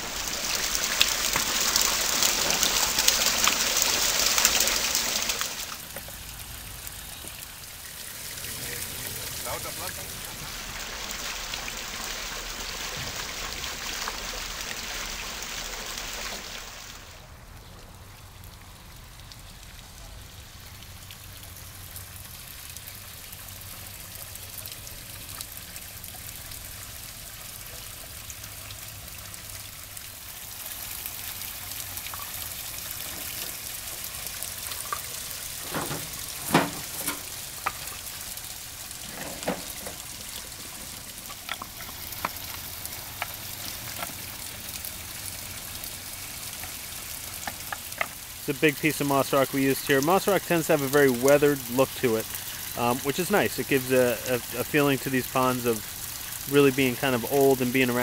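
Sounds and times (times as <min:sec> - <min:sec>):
waterfall splashing: 0:00.0 - 0:17.2, 0:20.5 - 0:58.0.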